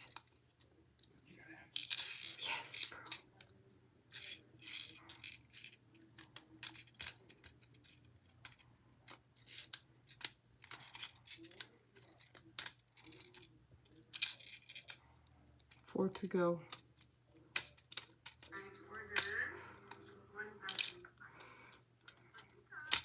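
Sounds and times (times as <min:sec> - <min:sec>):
plastic pieces clicking: 0:01.8 - 0:03.5, 0:04.1 - 0:23.0.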